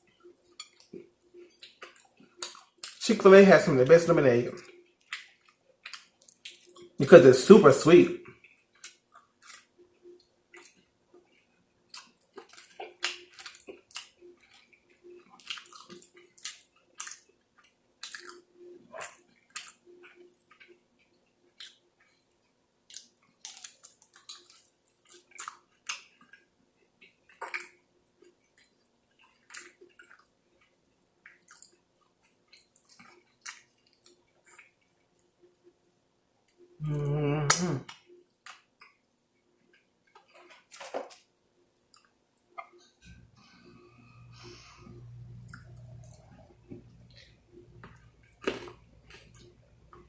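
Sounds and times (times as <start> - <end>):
wet chewing and lip smacks: 0.1 - 3.0, 4.6 - 7.0, 8.3 - 36.7, 37.5 - 43.3, 44.5 - 50.0.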